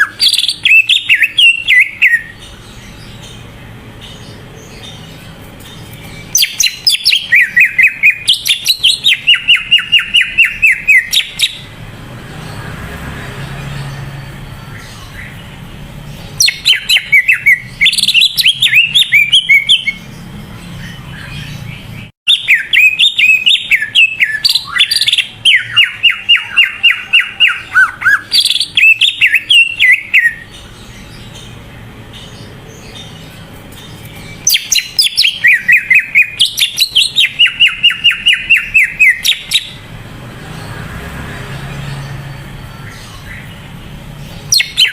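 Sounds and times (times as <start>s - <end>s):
bird singing sweeping chirps: 0.0s - 44.9s.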